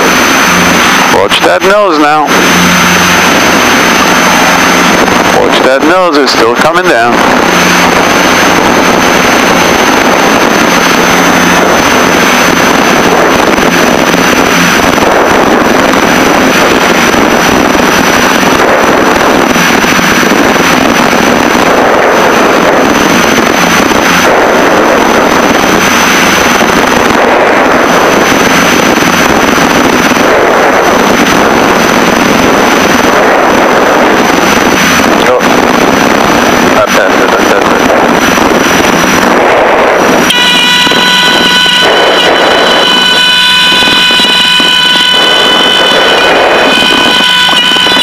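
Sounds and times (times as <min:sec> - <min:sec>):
aircraft engines and propellers: 0:00.0 - 0:48.0
airflow over cockpit: 0:00.0 - 0:48.0
thin high steady whine: 0:00.0 - 0:48.0.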